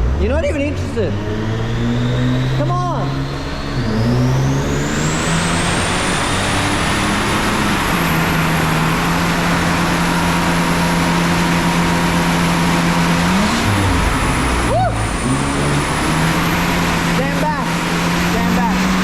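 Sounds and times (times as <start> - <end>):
engine running hard: 0.0 - 19.0.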